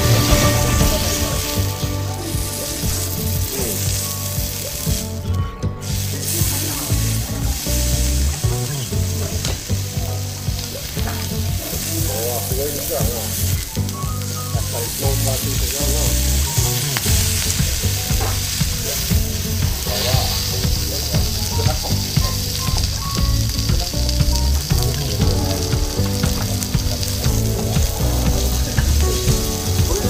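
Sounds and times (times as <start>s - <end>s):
beef sizzling on a grill: 0.0s - 30.0s.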